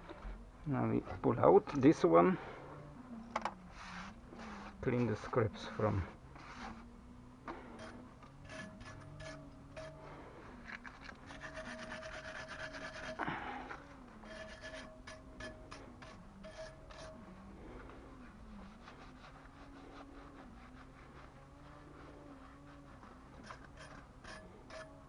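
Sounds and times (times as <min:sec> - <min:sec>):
scraping and rubbing: 0:03.4 - 0:06.9, 0:07.5 - 0:25.0.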